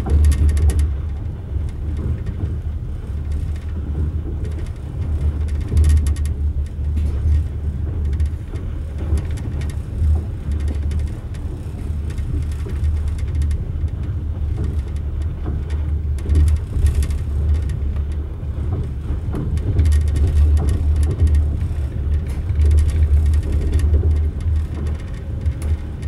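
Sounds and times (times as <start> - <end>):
train clicks and rattles: 0.0 - 26.0
train rumble inside carriage: 0.0 - 26.0.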